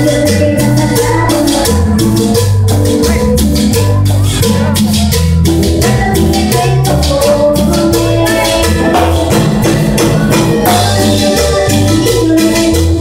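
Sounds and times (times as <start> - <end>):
latin dance band playing: 0.0 - 13.0.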